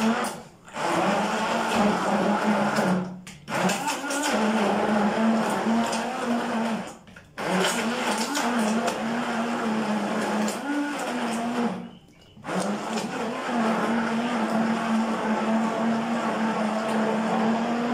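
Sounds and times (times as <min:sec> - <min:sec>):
stick blender motor: 0:00.0 - 0:17.9.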